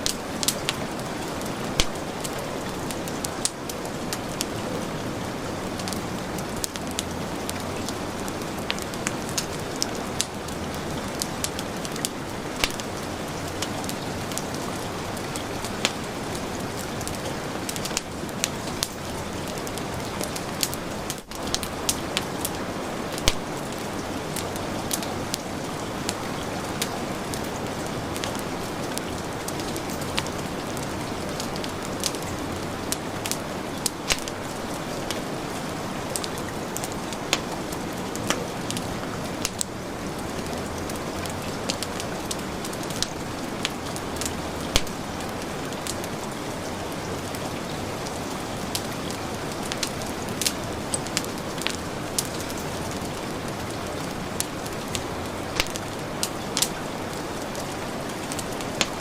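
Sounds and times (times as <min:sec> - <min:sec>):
heavy rain: 0:00.0 - 0:59.0
wood fire crackling and popping: 0:00.0 - 0:59.0.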